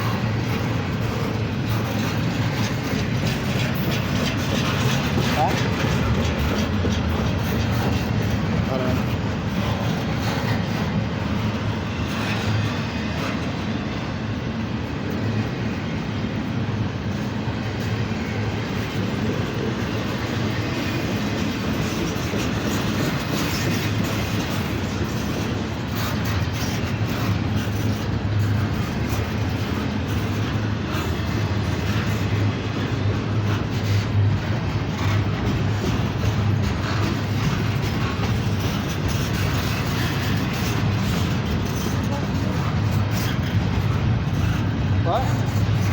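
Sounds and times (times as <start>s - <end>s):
rail cars clattering: 0.0s - 45.9s
train wheels rumbling on rails: 0.0s - 45.9s.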